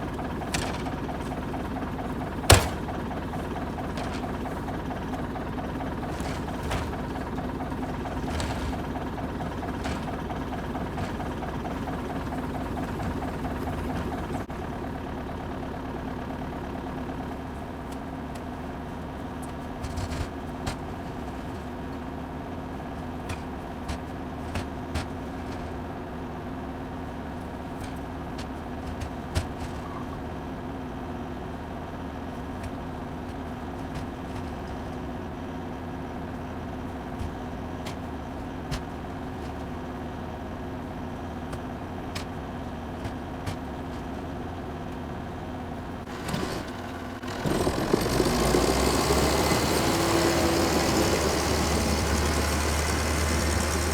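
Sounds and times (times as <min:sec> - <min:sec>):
tractor engine running: 0:00.0 - 0:30.5, 0:31.7 - 0:53.9.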